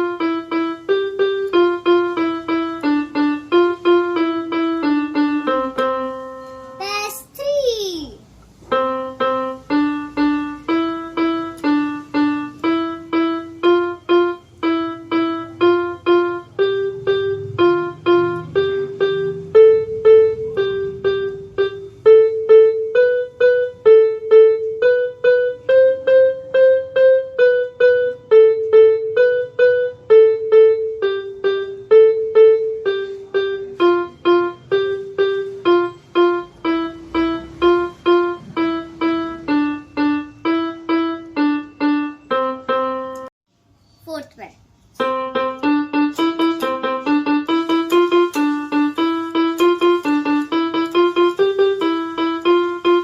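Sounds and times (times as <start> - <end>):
electronic keyboard melody: 0.0 - 7.2, 8.2 - 43.3, 44.9 - 53.0.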